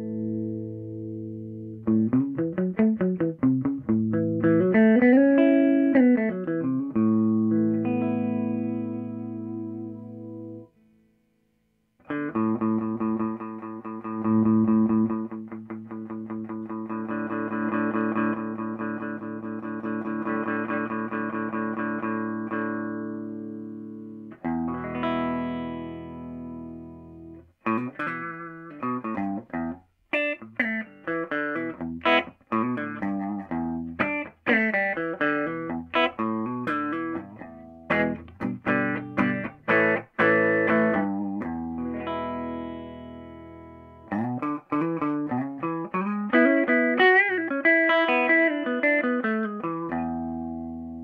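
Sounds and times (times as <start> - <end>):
clean electric guitar playing: 0.0 - 10.8, 12.0 - 51.0.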